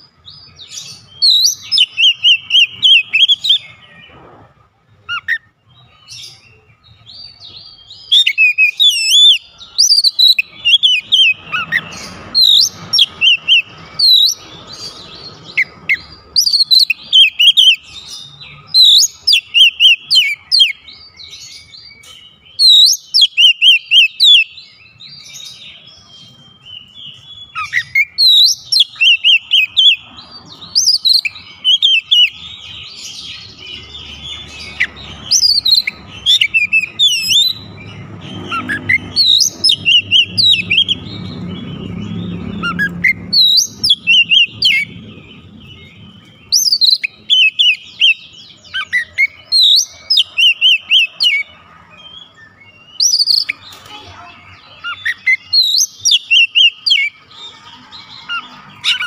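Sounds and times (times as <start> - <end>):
bird singing whistles and chirps: 0.0 - 4.2, 5.1 - 59.0.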